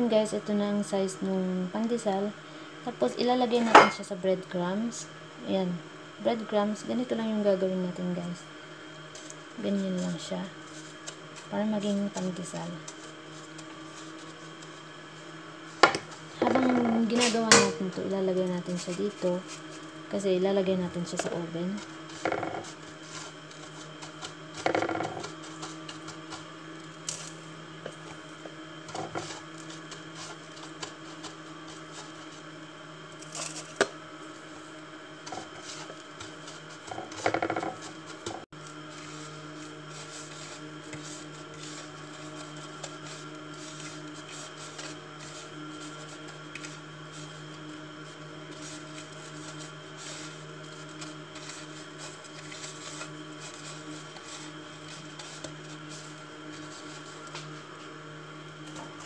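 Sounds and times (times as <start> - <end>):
kitchen appliance humming: 0.0 - 59.0.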